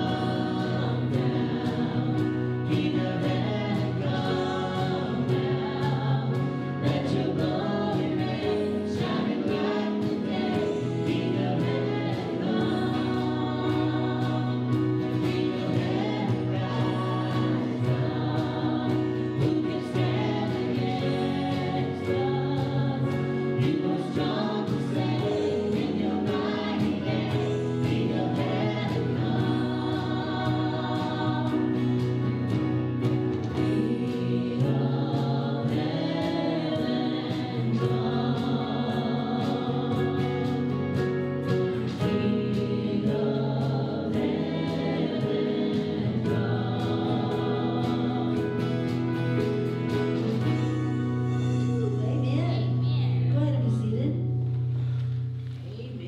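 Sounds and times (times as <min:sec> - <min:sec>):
voices singing together: 0:00.0 - 0:51.6
worship band playing: 0:00.0 - 0:56.0.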